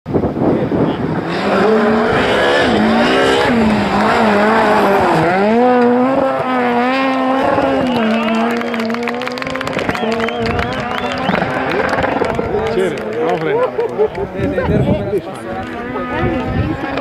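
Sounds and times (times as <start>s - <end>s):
rally car engine revving: 0.2s - 17.0s.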